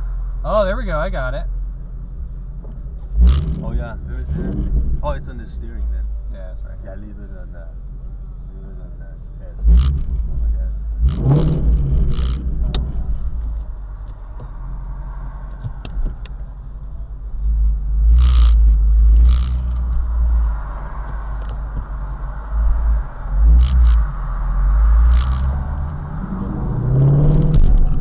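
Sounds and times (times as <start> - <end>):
car exhaust rumbling: 0.0 - 28.0.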